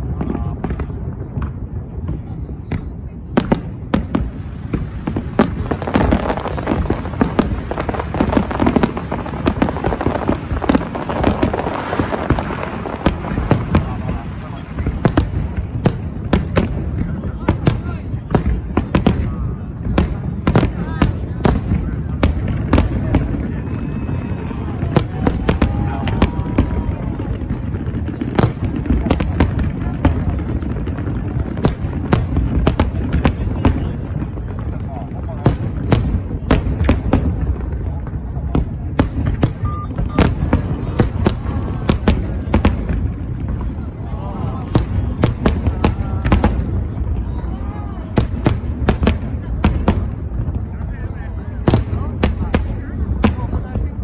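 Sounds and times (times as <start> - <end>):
continuous rumble: 0.0 - 54.0
fireworks bangs and crackles: 0.0 - 54.0.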